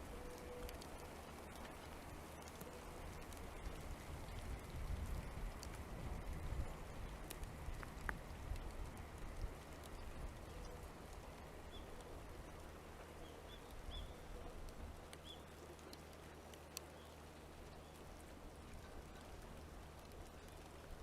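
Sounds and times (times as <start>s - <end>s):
light rain pattering: 0.0s - 21.0s
low steady hum: 0.0s - 21.0s.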